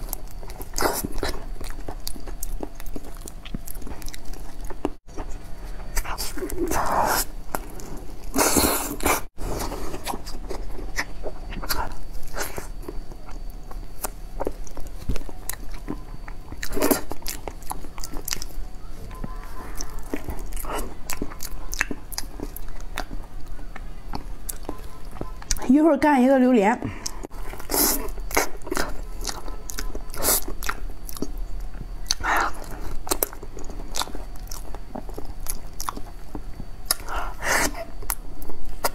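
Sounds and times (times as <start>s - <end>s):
wet mouth eating sounds: 0.0s - 9.3s, 9.9s - 25.6s, 27.0s - 38.9s
biting and chewing: 0.0s - 25.7s, 27.0s - 38.9s.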